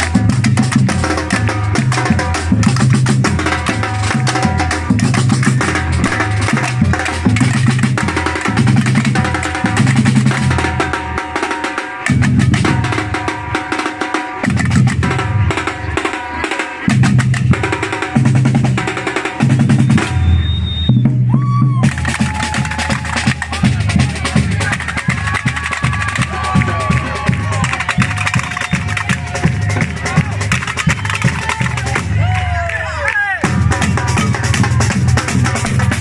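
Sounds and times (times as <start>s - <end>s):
deep bass drums: 0.0s - 11.2s, 14.4s - 16.0s, 16.9s - 32.6s, 33.4s - 36.0s
drum group playing: 0.0s - 36.0s.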